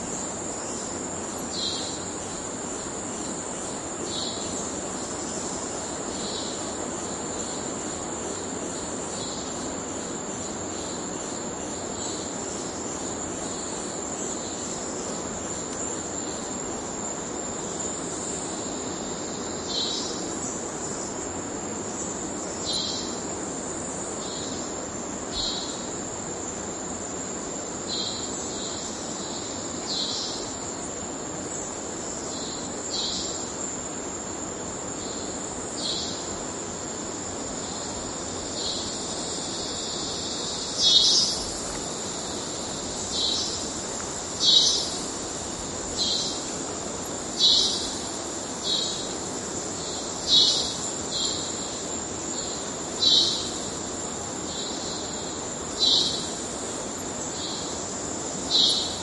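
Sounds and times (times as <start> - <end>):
cicada high-pitched drone: 0.0 - 59.0
low background hiss: 0.0 - 59.0
short insect calls: 0.0 - 59.0.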